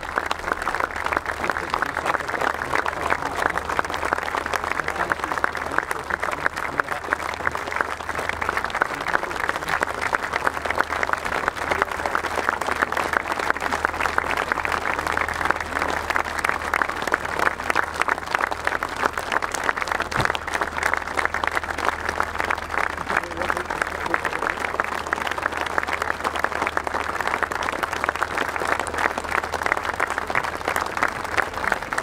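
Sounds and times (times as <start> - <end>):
stadium crowd applauding: 0.0 - 32.0.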